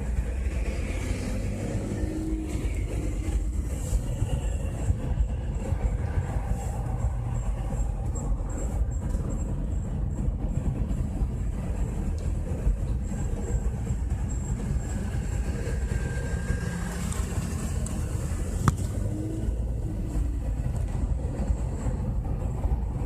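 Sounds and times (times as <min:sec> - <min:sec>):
vehicle road rumble: 0:00.0 - 0:23.0.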